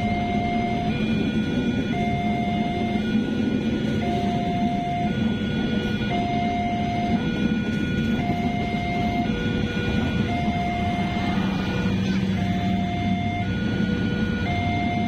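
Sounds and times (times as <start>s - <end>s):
two-tone level crossing alarm: 0.0s - 15.0s.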